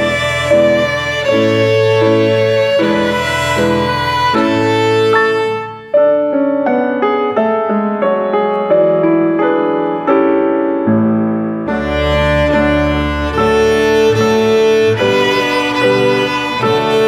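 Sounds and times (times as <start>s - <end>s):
piano-like keyboard melody: 0.0s - 17.0s.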